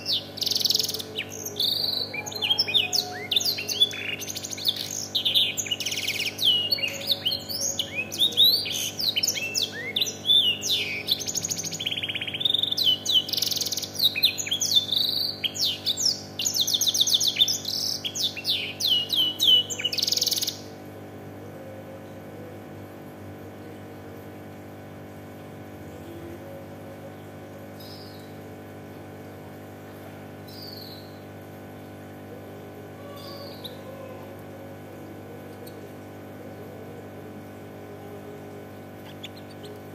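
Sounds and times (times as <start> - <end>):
canary singing: 0.0 - 20.8, 25.6 - 29.1, 29.9 - 39.9
steady low hum: 0.0 - 39.9.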